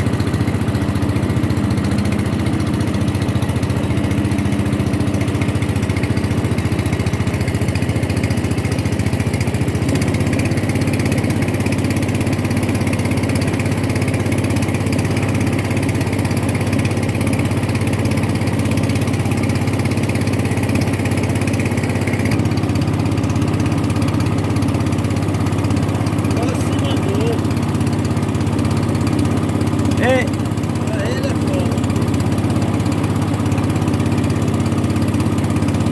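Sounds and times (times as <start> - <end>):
motorboat engine running: 0.0 - 35.9.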